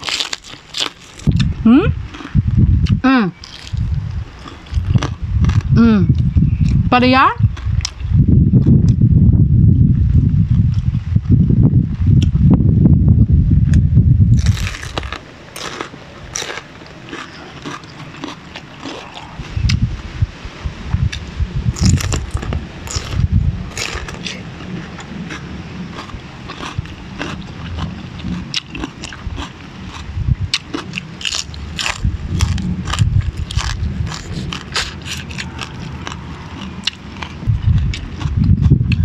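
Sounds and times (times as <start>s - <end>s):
crisp crunches and chewing: 0.0s - 6.8s, 7.4s - 9.0s, 14.3s - 19.8s, 21.1s - 39.0s
low muffled rumble: 1.0s - 39.0s.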